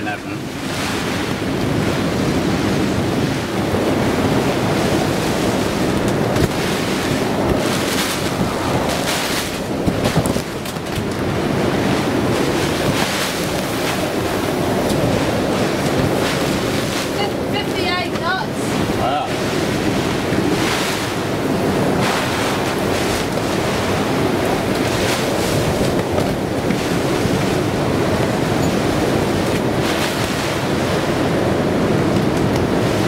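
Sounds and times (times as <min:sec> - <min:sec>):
heavy rain: 0:00.0 - 0:33.0
strong wind buffeting microphone: 0:00.0 - 0:33.0.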